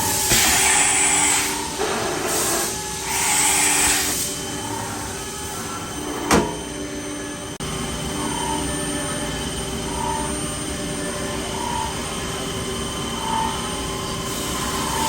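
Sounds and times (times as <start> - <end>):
machine whine: 0.0 - 15.0.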